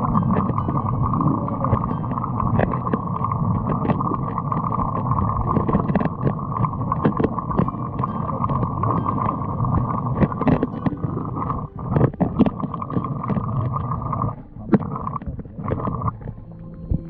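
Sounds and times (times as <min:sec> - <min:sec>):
stream water rushing: 0:00.0 - 0:17.0
small ticks and knocks: 0:00.1 - 0:17.0.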